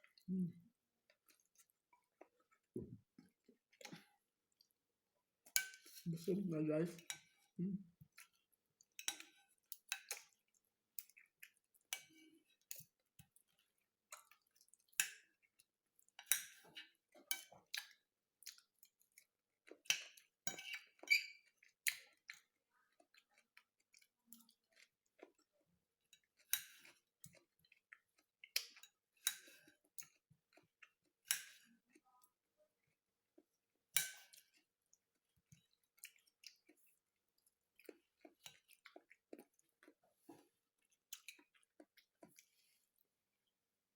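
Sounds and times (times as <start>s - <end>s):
person chewing food: 1.0s - 4.8s, 8.0s - 32.4s, 33.3s - 43.6s.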